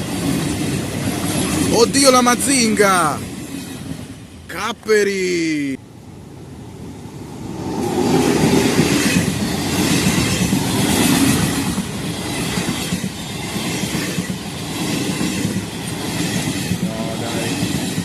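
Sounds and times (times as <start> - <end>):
passenger train passing on rails: 0.0 - 18.0.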